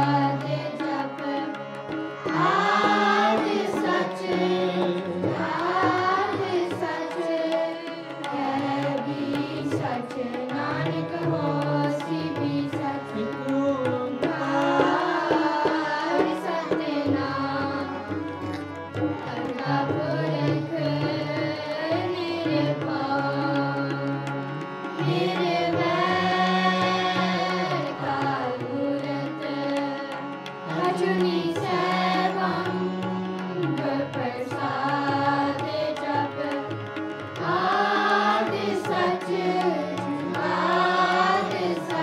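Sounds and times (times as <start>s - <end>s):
children singing: 0.0s - 13.0s, 14.3s - 23.7s, 24.9s - 42.0s
harmoniums playing chords: 0.0s - 42.0s
tabla drumming: 0.0s - 42.0s.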